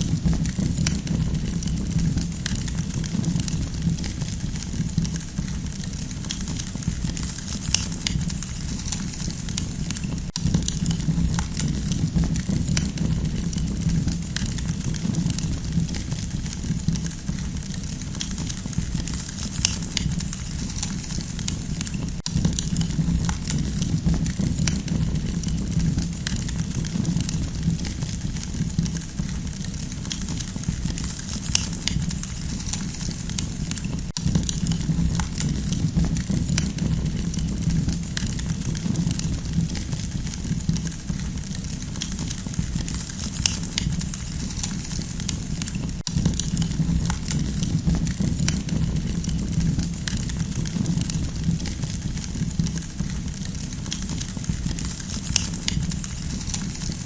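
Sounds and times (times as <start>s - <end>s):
burning wood crackling: 0.0s - 57.0s
campfire rumble: 0.0s - 57.0s.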